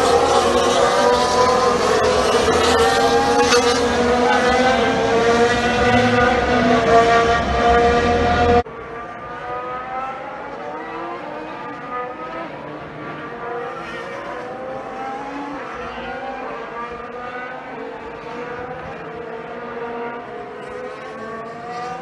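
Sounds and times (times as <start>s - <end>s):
distant race cars accelerating: 0.0s - 22.0s.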